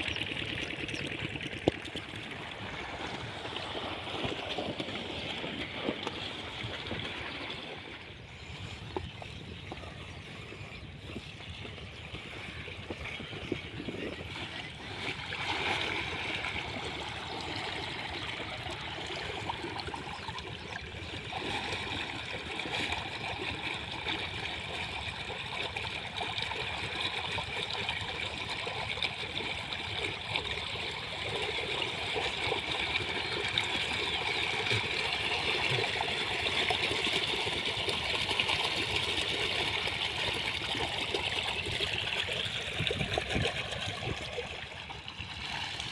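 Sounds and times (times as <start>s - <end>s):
water flowing and gurgling: 0.0s - 45.9s.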